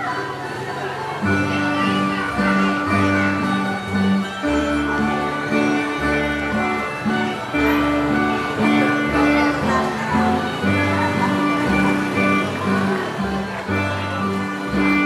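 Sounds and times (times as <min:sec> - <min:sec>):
plucked string instruments: 0:00.0 - 0:15.0
bass line: 0:01.2 - 0:15.0.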